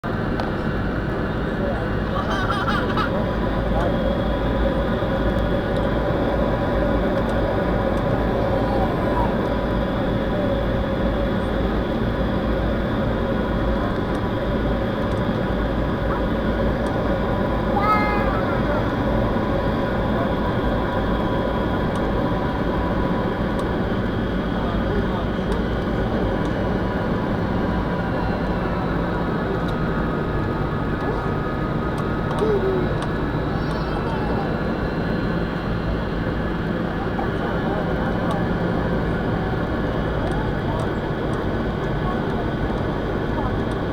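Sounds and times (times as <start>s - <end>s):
jet engines roaring in flight: 0.0s - 43.9s
faint steady whines: 0.1s - 43.9s.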